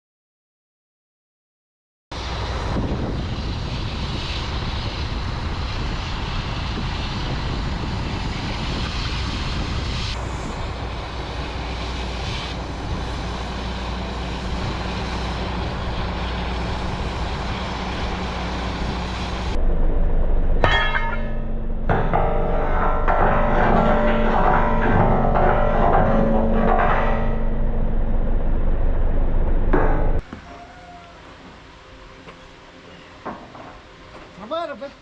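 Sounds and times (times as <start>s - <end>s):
heavy vehicle engine running: 2.2s - 30.4s.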